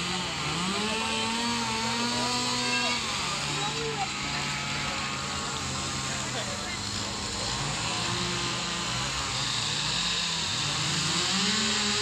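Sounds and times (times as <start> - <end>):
distant voices chattering: 0.0 - 12.0.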